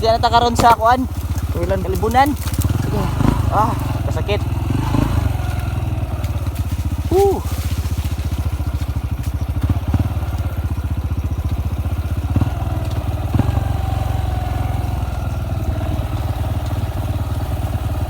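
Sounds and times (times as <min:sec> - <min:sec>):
engine knocks: 0:00.0 - 0:18.0
motorcycle engine running: 0:00.0 - 0:18.0.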